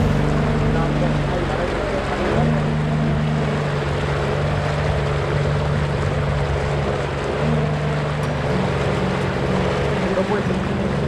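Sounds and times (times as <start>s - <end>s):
jet ski engine running: 0.0s - 11.0s
water rushing: 0.0s - 11.0s.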